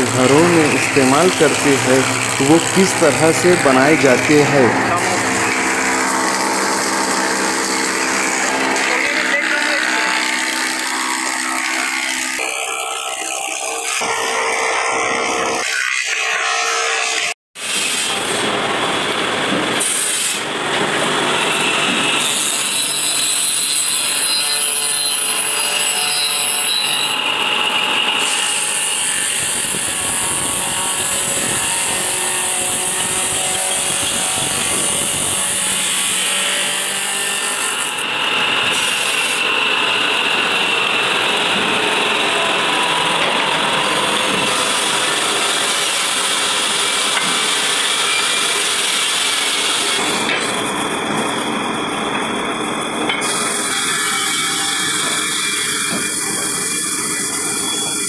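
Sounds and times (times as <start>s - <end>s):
power saws cutting wood: 0.0s - 58.0s.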